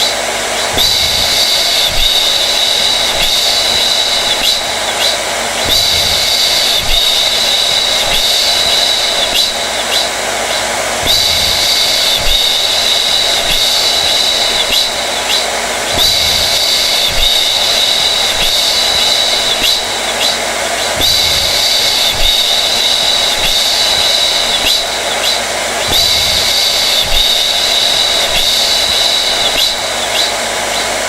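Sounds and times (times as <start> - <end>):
hair dryer blowing with whine: 0.0 - 31.0.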